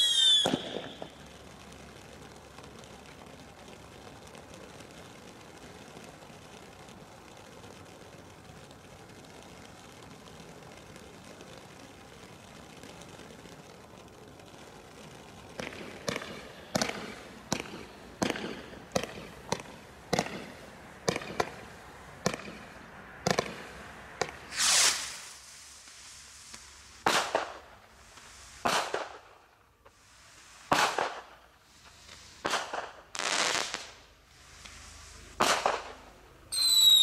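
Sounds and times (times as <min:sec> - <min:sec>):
firework bangs: 0:00.0 - 0:37.0
firework fountain hissing: 0:00.0 - 0:37.0.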